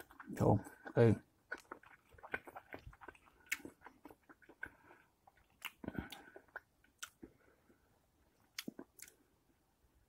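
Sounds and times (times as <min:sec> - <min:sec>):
person chewing with wet mouth clicks: 0:00.0 - 0:07.5, 0:08.4 - 0:09.3.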